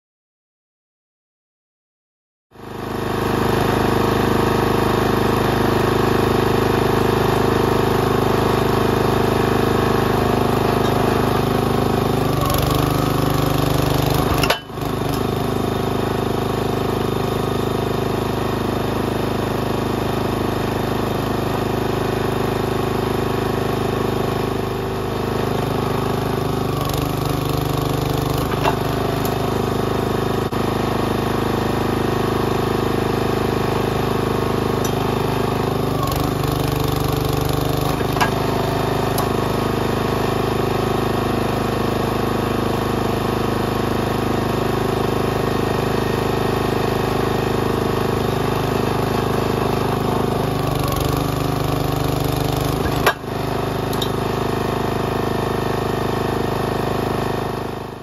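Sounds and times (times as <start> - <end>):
small engine running: 2.6 - 58.0.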